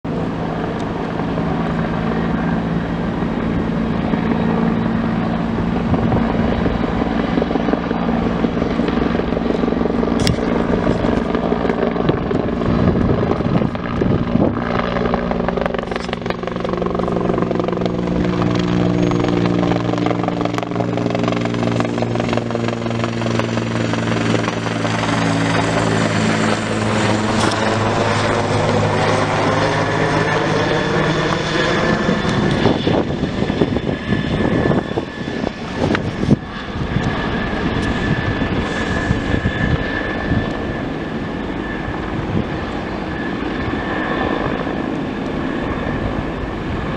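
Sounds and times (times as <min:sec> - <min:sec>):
helicopter rotor beat: 0:00.0 - 0:46.9.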